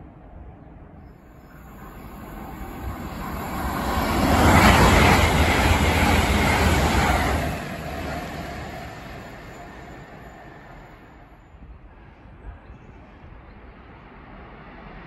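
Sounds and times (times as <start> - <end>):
train passing at speed: 0.7 - 15.0.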